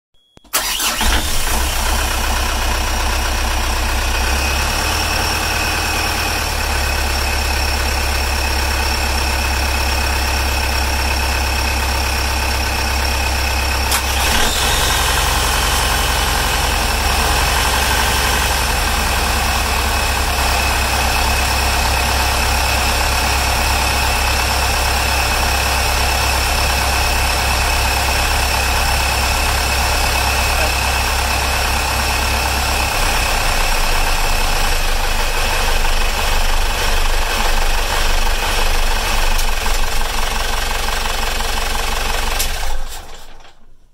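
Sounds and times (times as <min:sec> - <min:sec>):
diesel engines idling: 0:00.5 - 0:42.8.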